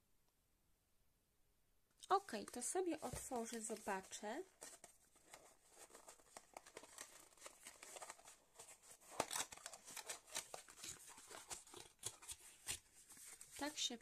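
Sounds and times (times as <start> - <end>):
cardboard box rustling and crinkling: 2.4 - 13.7.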